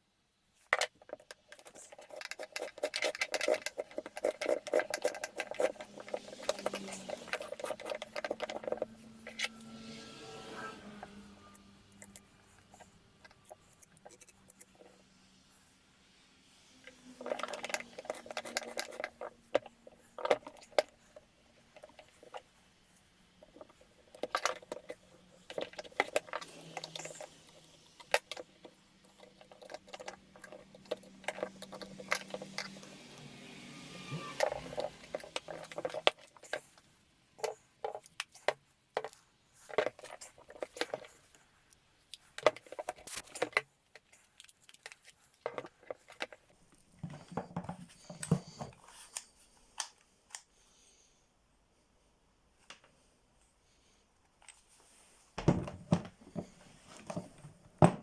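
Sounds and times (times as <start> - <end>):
small parts and tools clinking: 0.6 - 15.1, 16.8 - 22.6, 23.4 - 33.3, 34.0 - 50.4.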